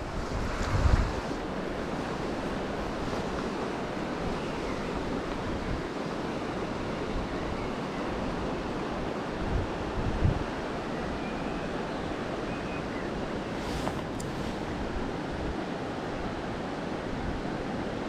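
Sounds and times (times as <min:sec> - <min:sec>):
wind buffeting microphone: 0:00.0 - 0:06.1, 0:06.7 - 0:17.6
small river rushing and rippling: 0:00.0 - 0:18.0.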